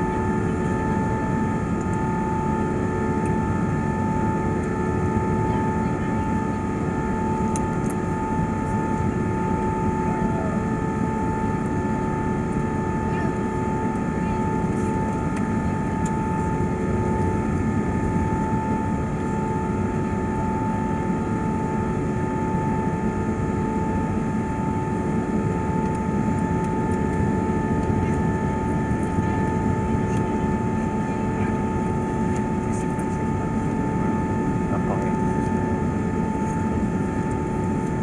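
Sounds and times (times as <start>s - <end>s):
aircraft cabin engine rush: 0.0s - 38.0s.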